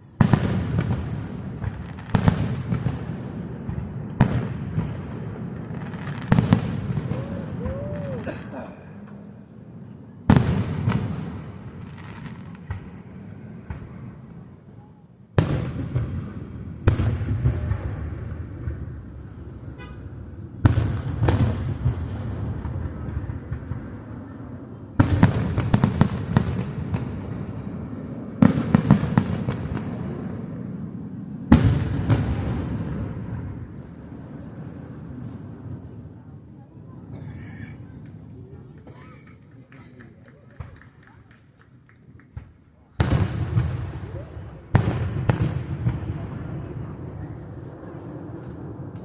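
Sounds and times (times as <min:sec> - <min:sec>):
fireworks crackling: 0:00.0 - 0:14.8, 0:15.4 - 0:36.2, 0:37.8 - 0:49.0
fireworks booming: 0:00.0 - 0:36.2, 0:42.3 - 0:49.0.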